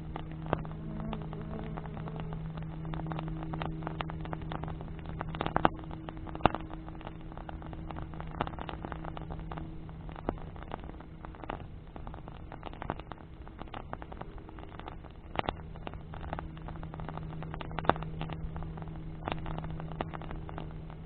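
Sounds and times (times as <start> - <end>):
campfire crackling: 0.0 - 21.0
low hum: 0.0 - 21.0.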